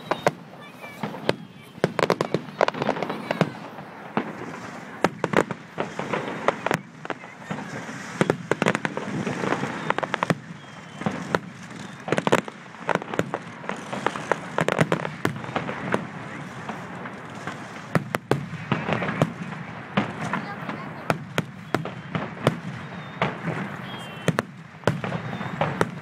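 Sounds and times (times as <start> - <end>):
fireworks banging and crackling: 0.0 - 26.0.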